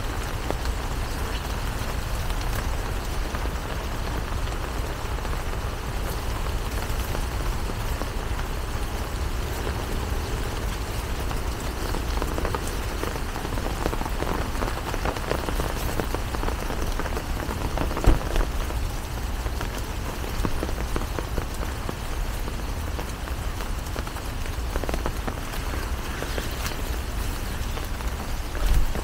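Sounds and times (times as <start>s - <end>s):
raindrops ticking: 0.0s - 29.0s.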